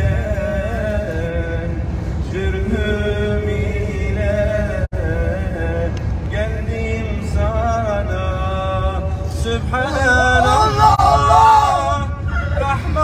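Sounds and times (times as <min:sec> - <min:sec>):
bus rumble: 0:00.0 - 0:13.0
men singing into a microphone: 0:00.0 - 0:13.0.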